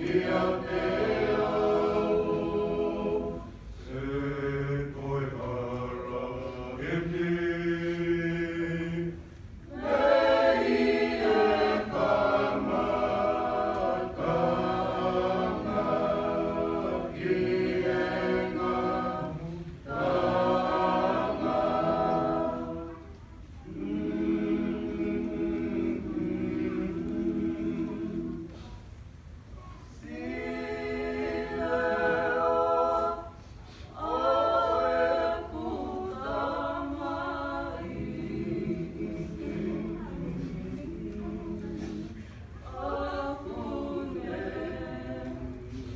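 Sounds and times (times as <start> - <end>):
choir singing unaccompanied: 0.0 - 28.7, 29.9 - 45.9.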